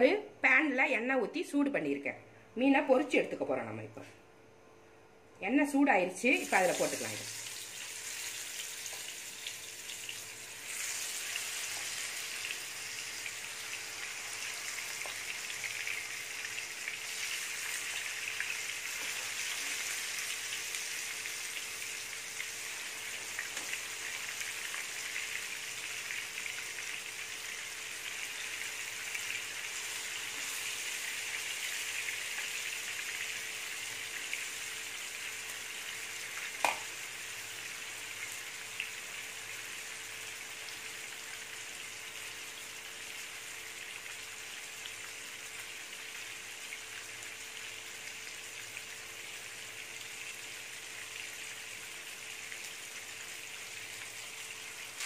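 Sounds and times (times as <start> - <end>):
faint steady hum: 0.0 - 55.0
fish sizzling in hot oil: 6.3 - 55.0.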